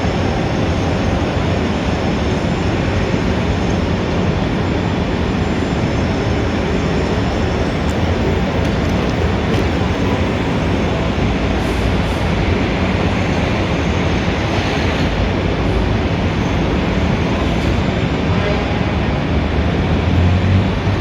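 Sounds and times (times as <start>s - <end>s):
dense city traffic: 0.0s - 21.0s.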